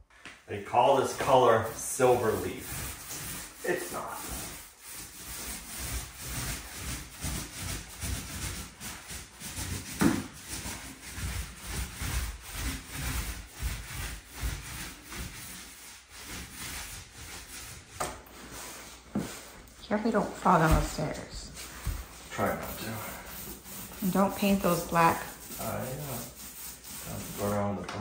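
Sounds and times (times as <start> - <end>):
paint roller rubbing on wall: 0.4 - 28.0.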